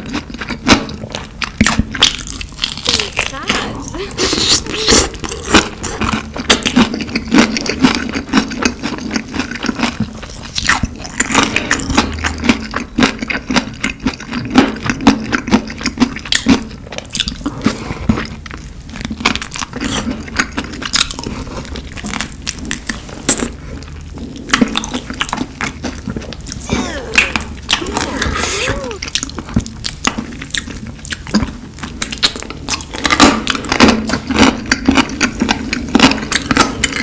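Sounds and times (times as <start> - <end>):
crunching and chewing: 0.0 - 37.0.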